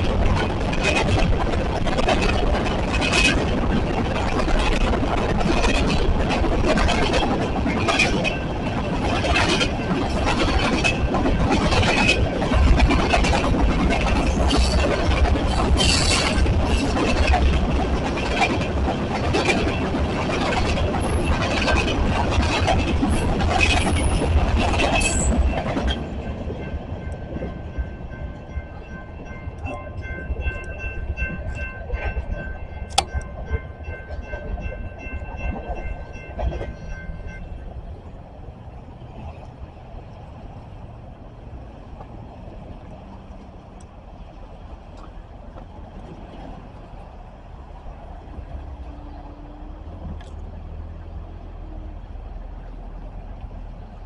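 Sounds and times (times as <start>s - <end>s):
train cars rumbling past: 0.0s - 54.0s
wheels clicking over rails: 0.0s - 54.0s.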